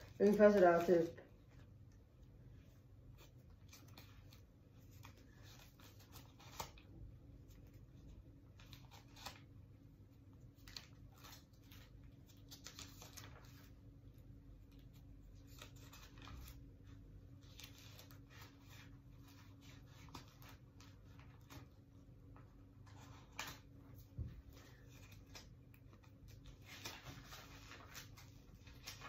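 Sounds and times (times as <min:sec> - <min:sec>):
low steady hum: 0:00.0 - 0:29.0
scratches and rustles of handling: 0:00.0 - 0:29.0.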